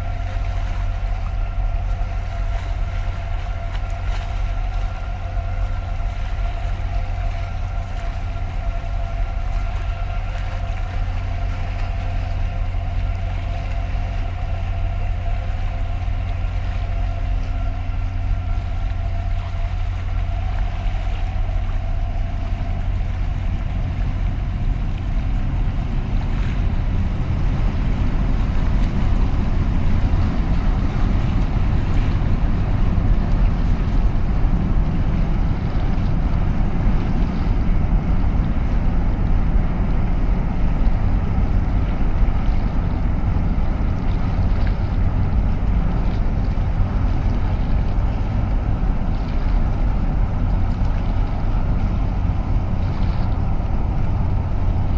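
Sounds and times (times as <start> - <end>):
ship engine drone: 0.0 - 54.9
steady tonal hum: 0.0 - 54.9.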